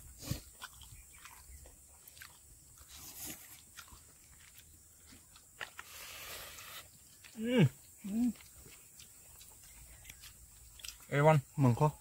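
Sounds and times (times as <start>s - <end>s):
person chewing: 0.0s - 11.3s
soft clicks of eating: 0.5s - 5.9s, 7.0s - 11.3s.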